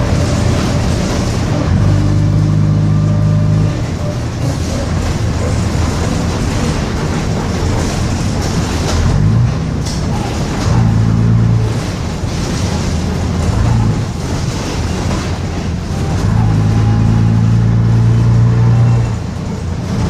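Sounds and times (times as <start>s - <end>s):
diesel bus engine running: 0.0s - 20.0s.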